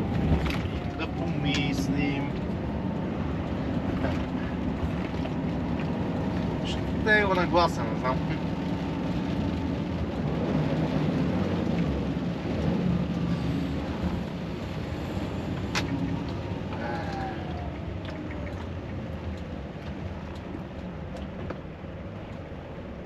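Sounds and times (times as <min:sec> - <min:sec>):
rain: 0:00.0 - 0:23.0
road noise: 0:00.0 - 0:23.0
truck engine drone: 0:00.0 - 0:23.0.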